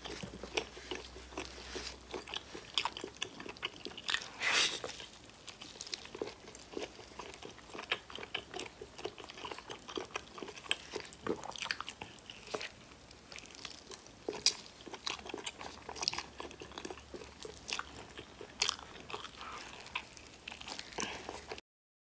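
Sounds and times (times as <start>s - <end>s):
person chewing meat: 0.0s - 21.6s.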